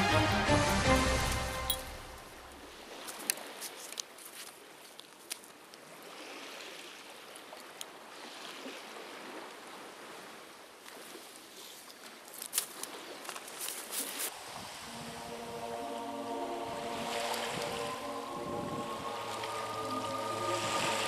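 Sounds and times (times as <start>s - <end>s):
small waves lapping on shore: 1.9s - 21.0s.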